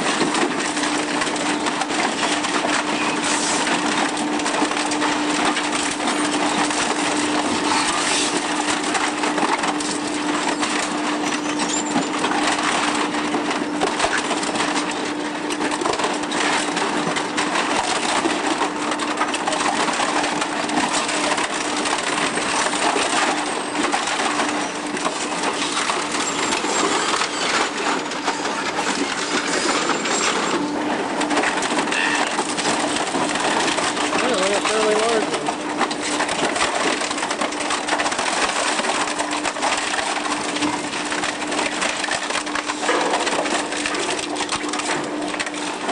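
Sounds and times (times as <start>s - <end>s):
plastic and metal crunching: 0.0s - 45.9s
shredder drive hum: 0.0s - 45.9s.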